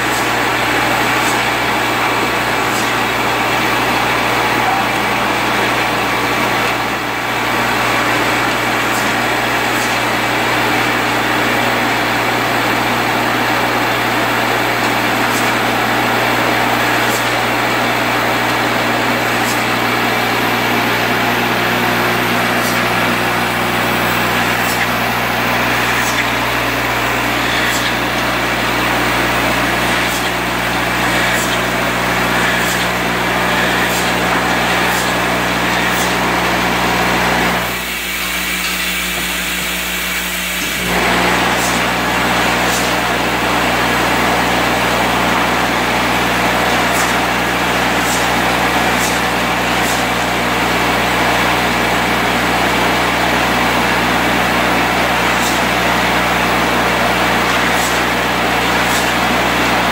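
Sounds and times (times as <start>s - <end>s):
vibrating drive hum: 0.0s - 57.5s.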